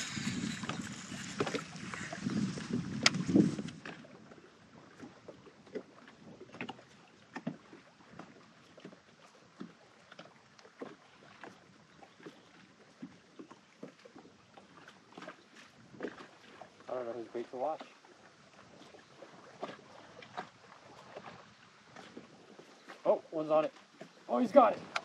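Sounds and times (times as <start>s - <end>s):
small waves lapping against hull: 0.0s - 25.0s.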